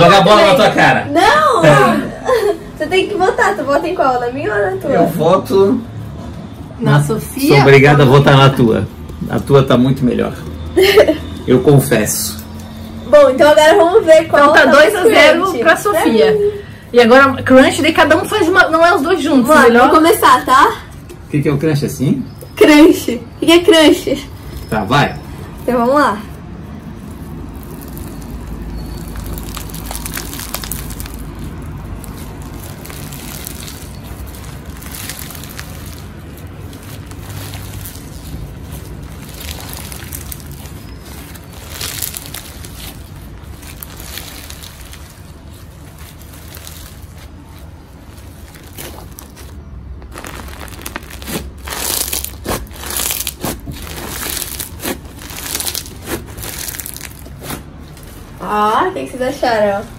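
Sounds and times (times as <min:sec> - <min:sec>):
crunchy slime crackling: 0:06.4 - 0:59.9.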